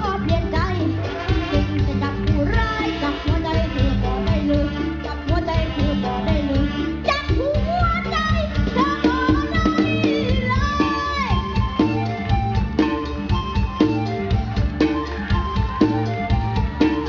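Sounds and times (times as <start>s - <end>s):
music with drum beat and bass: 0.0s - 17.0s
sliding melody line: 0.0s - 17.0s.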